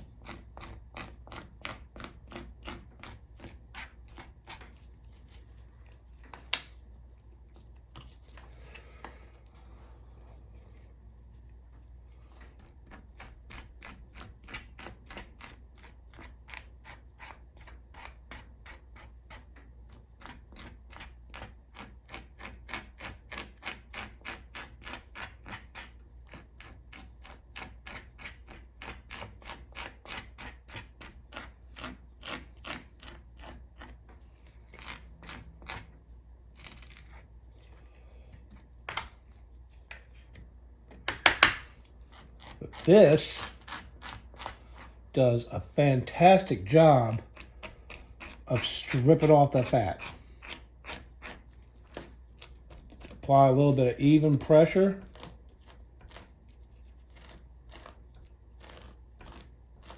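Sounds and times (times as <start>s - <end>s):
plastic scraper scraping chicken skin: 0.0s - 6.7s, 12.1s - 37.7s, 40.0s - 59.9s.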